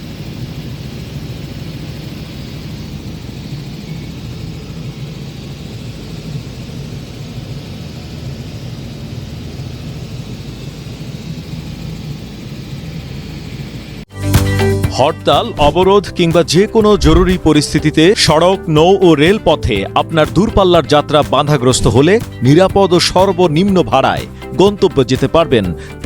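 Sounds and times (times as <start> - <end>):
helicopter rotor drone: 0.0 - 26.0.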